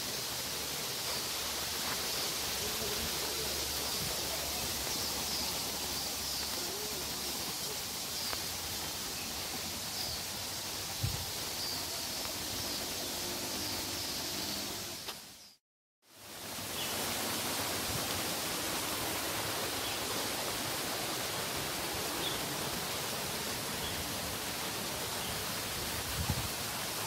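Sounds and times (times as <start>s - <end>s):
rocky stream rushing: 0.0s - 15.3s, 16.2s - 27.0s.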